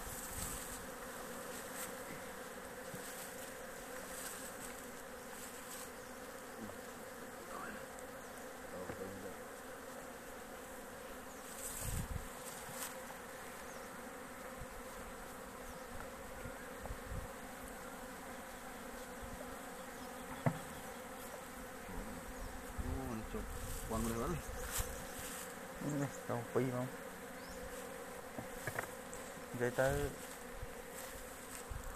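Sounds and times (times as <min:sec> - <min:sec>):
bees buzzing: 0:00.0 - 0:31.9.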